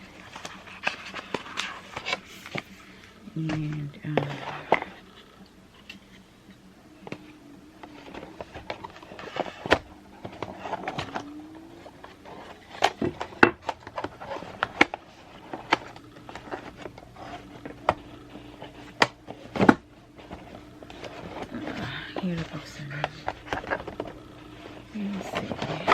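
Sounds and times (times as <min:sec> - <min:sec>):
packaging rustling: 0:00.0 - 0:06.3, 0:07.0 - 0:25.9.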